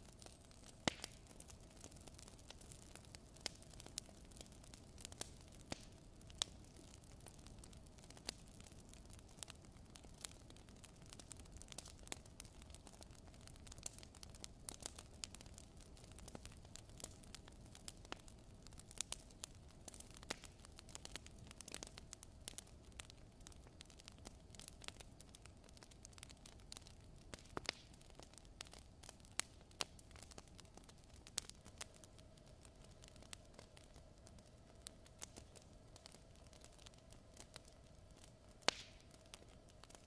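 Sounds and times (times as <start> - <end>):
fire crackling: 0.0 - 40.0
low steady hiss: 0.0 - 40.0.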